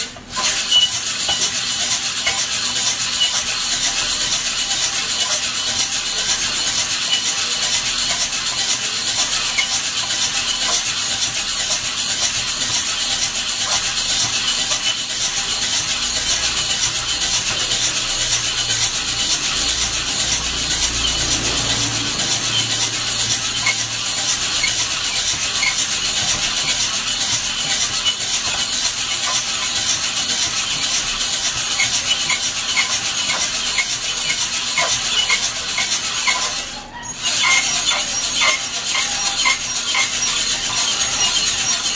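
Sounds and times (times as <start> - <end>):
coffee beans rattling in roaster: 0.0 - 41.9.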